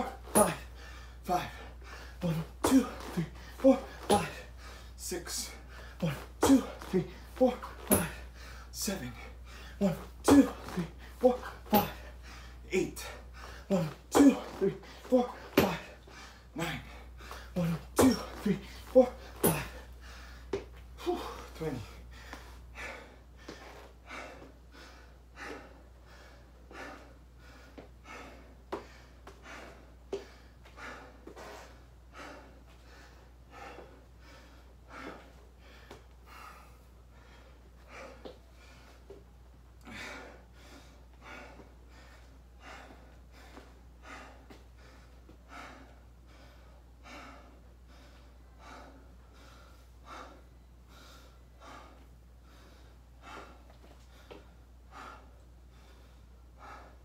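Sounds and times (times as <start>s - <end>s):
low steady hum: 0.0s - 57.0s
man breathing hard: 0.0s - 57.0s.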